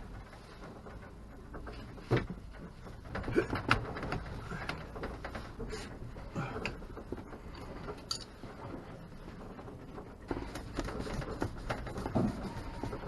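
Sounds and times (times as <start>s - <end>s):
clicks and knocks of hand work: 0.1s - 13.0s.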